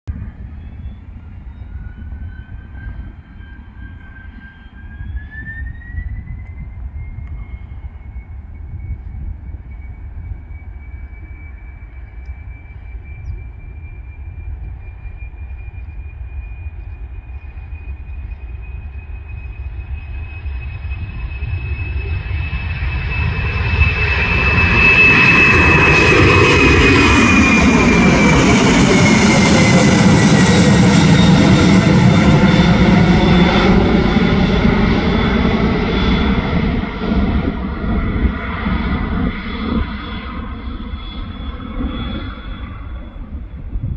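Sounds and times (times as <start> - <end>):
jet engines at take-off power: 0.1 - 43.9.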